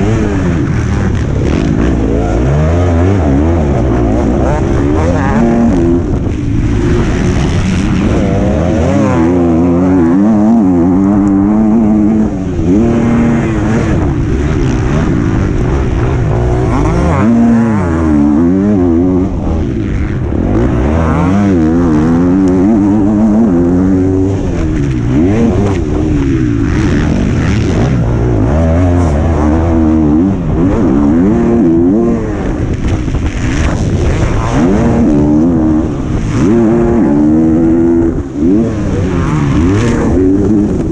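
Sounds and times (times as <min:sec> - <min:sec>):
motocross bike engine revving: 0:00.0 - 0:40.9
wind: 0:00.0 - 0:40.9.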